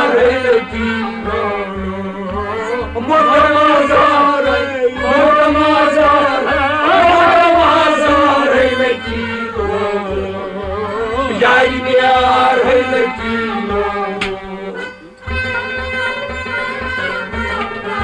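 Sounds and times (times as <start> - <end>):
instrumental accompaniment: 0.0 - 18.0
steady low drum beat: 0.0 - 18.0.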